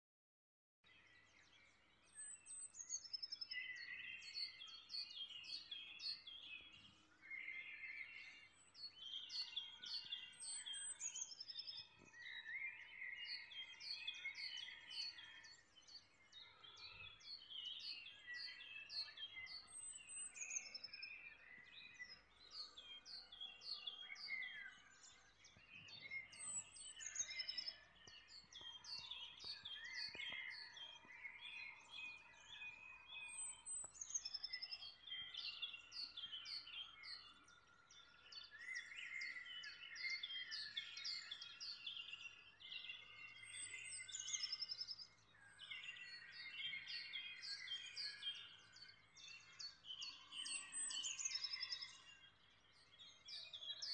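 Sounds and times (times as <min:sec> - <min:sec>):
songbirds chorus: 0:00.8 - 0:53.9.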